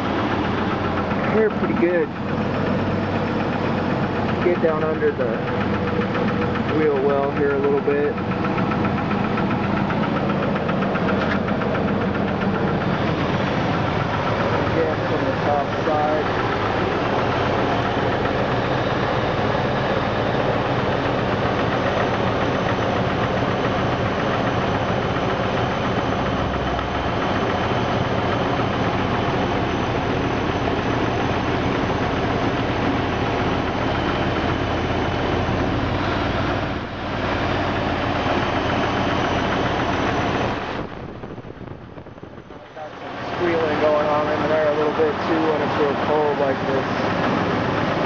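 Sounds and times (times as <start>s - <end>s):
car engine idling: 0.0s - 48.0s
engine knocking: 0.0s - 48.0s
engine squeal and whine: 0.0s - 48.0s.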